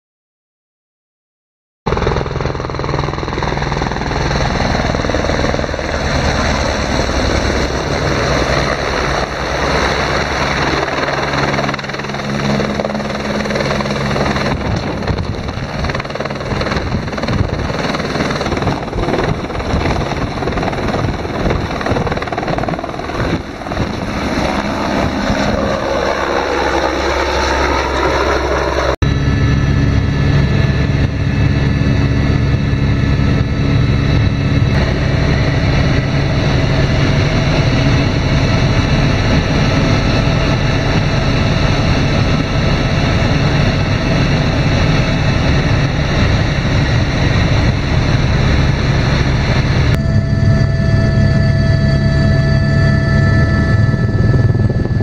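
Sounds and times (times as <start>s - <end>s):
helicopter cabin drone: 1.9s - 55.0s
helicopter rotor beat: 1.9s - 55.0s
turbine noise: 1.9s - 55.0s.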